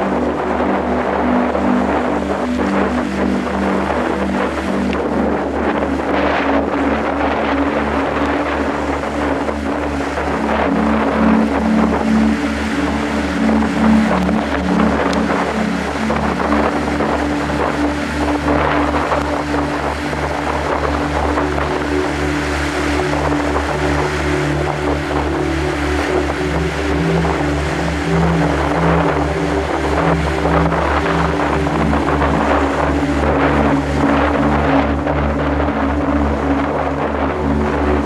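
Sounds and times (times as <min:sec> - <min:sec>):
low hum: 0:00.0 - 0:38.0
wind buffeting microphone: 0:00.0 - 0:38.0.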